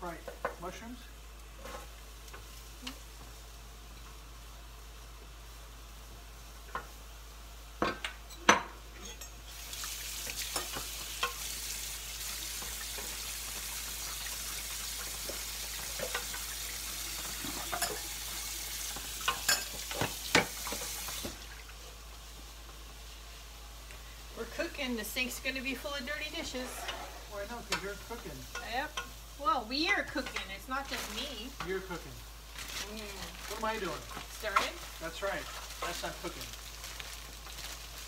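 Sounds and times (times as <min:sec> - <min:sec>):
mushrooms sizzling in a pan: 0:00.0 - 0:38.0.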